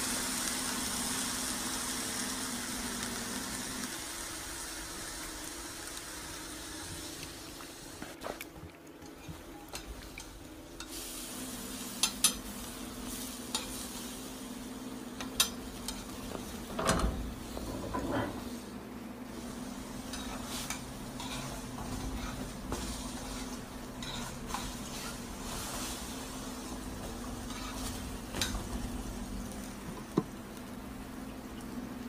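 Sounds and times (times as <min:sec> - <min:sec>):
food sizzling in oil: 0:00.0 - 0:08.0, 0:09.7 - 0:30.5.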